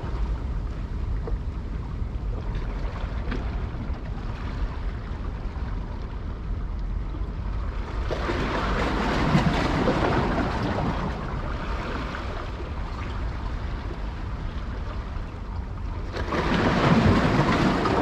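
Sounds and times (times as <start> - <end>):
sea water rushing: 0.0 - 18.0
wind: 0.0 - 18.0.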